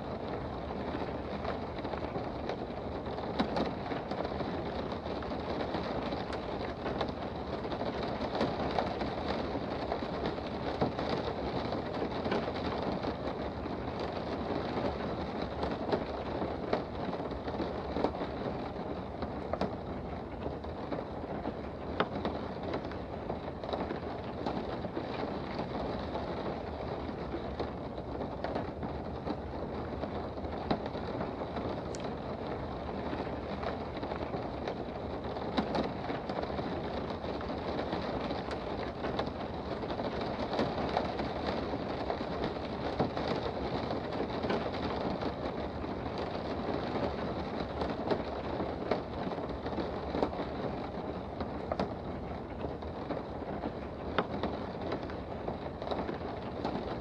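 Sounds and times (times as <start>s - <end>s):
rain heard from indoors: 0.0s - 57.0s
raindrop ticks: 0.0s - 57.0s.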